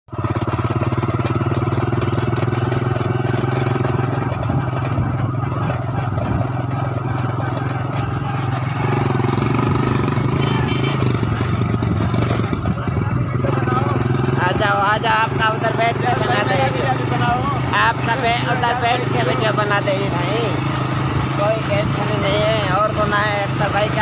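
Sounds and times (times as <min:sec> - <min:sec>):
engine running steadily: 0:00.1 - 0:24.0.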